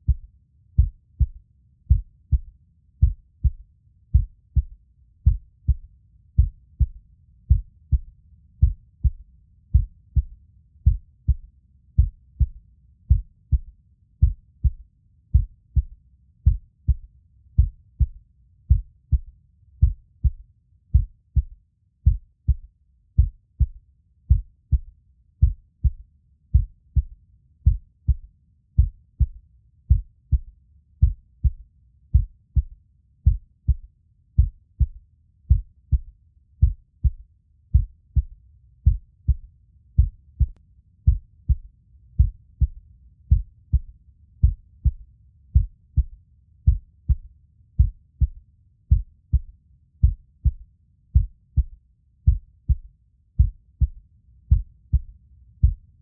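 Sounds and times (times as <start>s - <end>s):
heartbeat thumps: 0.1s - 50.6s, 51.2s - 56.0s.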